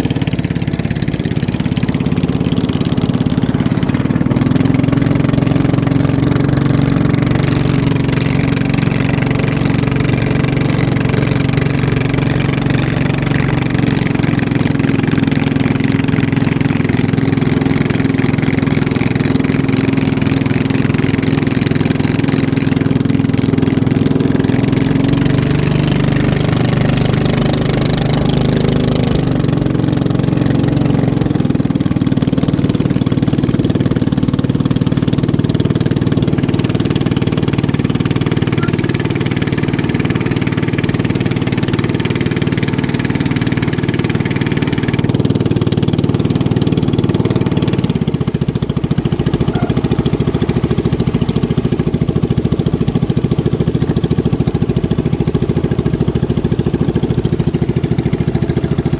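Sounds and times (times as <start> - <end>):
motorboat engines running: 0.0 - 58.9.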